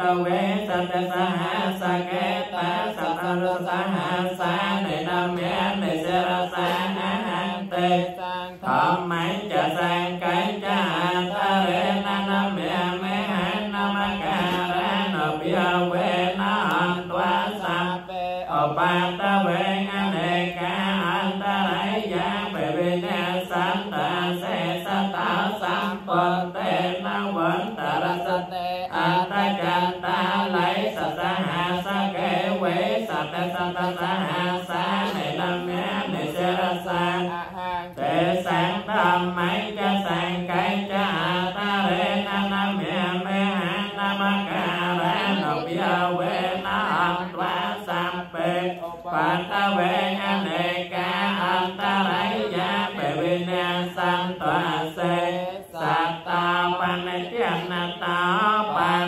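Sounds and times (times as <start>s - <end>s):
voices chanting in unison: 0.0s - 59.0s.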